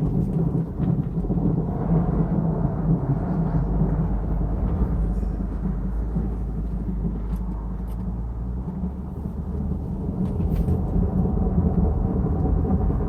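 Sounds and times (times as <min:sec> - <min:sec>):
driveline grinding rumble: 0:00.0 - 0:13.0.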